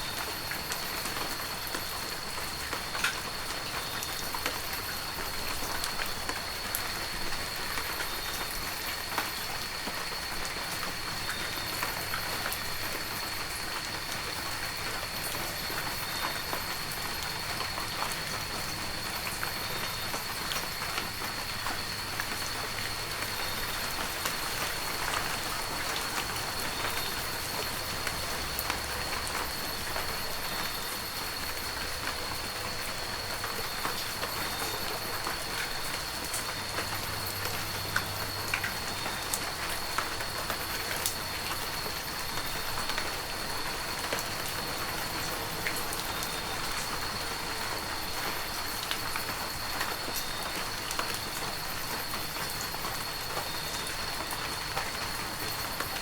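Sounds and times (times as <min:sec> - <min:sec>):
heavy rain falling: 0:00.0 - 0:56.0
raindrops ticking close by: 0:00.0 - 0:56.0.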